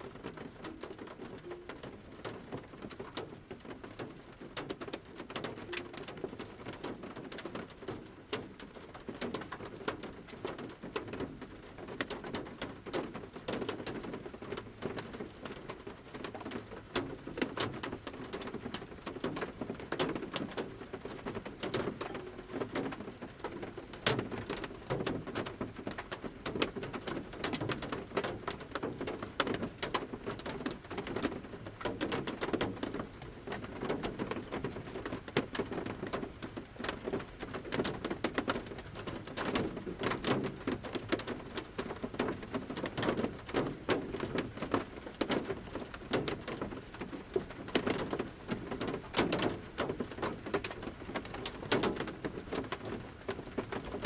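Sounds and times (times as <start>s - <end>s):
light rain pattering: 0.0s - 54.0s
raindrops tapping on metal roof: 0.0s - 54.0s.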